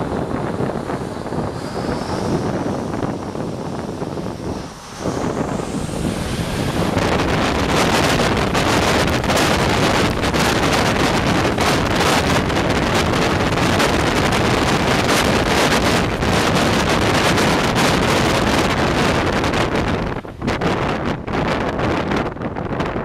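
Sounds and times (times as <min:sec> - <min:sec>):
jet engines roaring: 0:00.0 - 0:23.0
wind buffeting microphone: 0:00.0 - 0:23.0.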